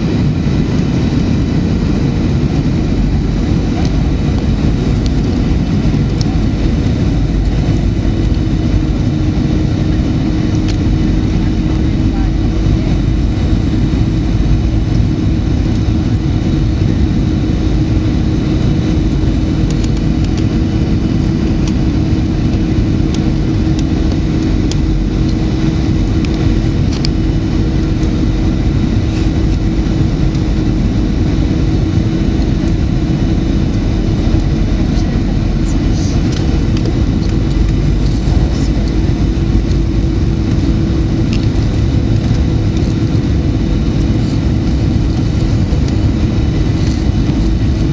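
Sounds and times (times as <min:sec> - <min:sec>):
jet engines droning in cabin: 0:00.0 - 0:47.9.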